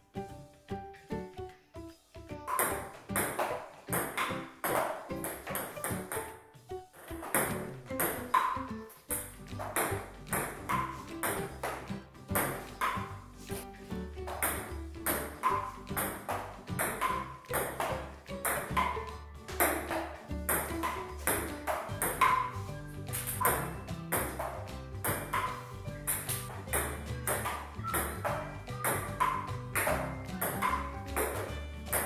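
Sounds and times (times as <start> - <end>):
background music with steady beat: 0.0 - 32.0.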